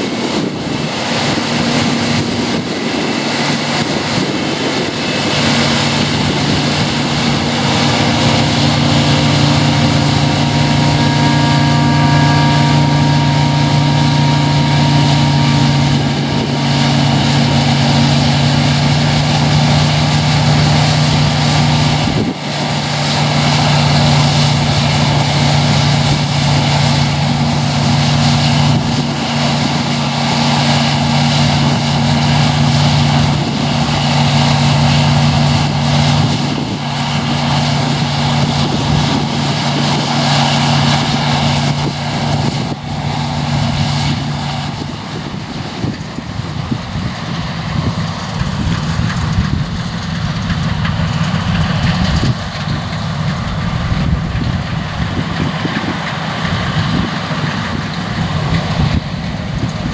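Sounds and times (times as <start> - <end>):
diesel engine hum: 0.0 - 59.9
threshing machinery rushing: 0.0 - 59.9.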